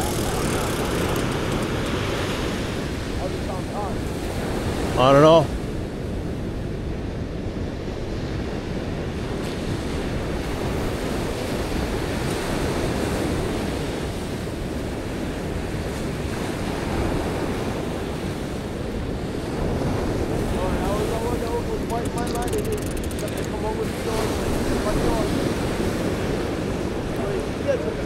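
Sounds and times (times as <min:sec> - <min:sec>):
ocean surf on sandy beach: 0:00.0 - 0:28.0
wind buffeting microphone: 0:00.0 - 0:28.0.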